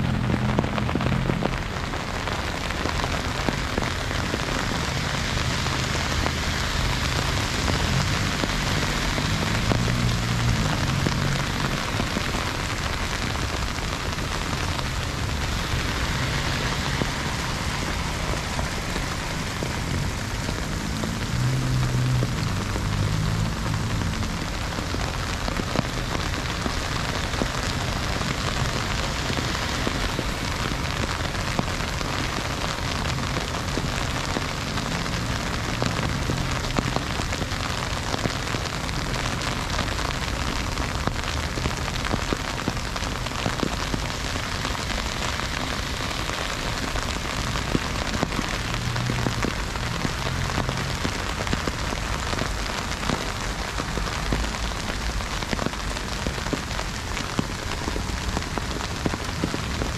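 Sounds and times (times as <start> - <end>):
heavy freezing rain hissing: 0.0 - 59.9.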